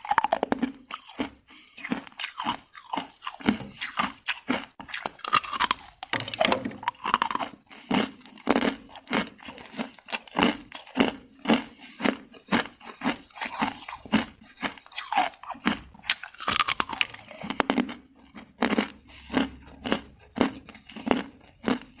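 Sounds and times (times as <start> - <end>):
person chewing crunchy ice: 0.0 - 22.0.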